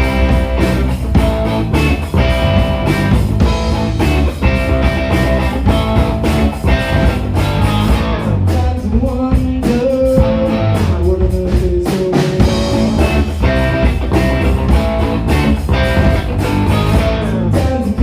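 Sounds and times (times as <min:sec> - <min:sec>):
live band playing funk rock: 0:00.0 - 0:18.0.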